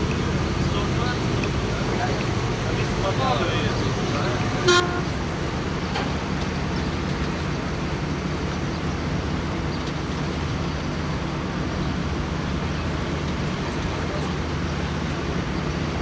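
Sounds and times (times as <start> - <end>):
boat diesel engine drone: 0.0 - 16.0.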